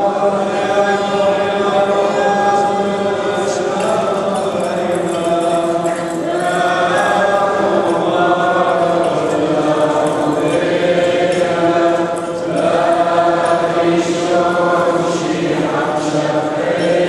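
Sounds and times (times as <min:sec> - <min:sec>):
voices chanting long notes: 0:00.0 - 0:17.0.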